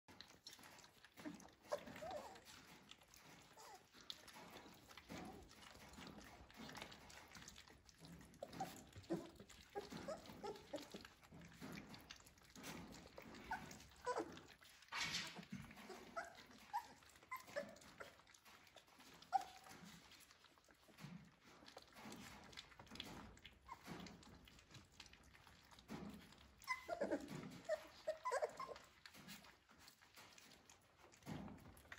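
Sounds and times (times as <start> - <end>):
puppies lapping food: 0.1 - 31.9
puppies whimpering and squeaking: 0.1 - 31.9.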